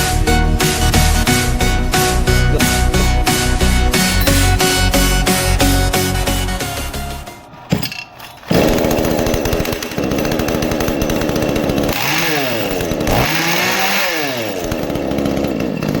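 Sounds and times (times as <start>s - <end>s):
chainsaw engine revving: 0.0s - 6.1s, 8.4s - 16.0s.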